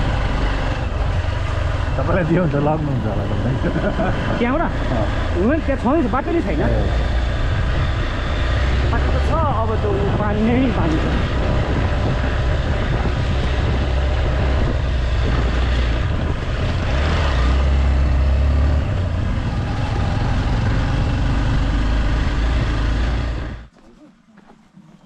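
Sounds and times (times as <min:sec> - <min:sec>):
wind rumble on microphone: 0:00.0 - 0:23.7
motorcycle engine drone: 0:00.0 - 0:25.0.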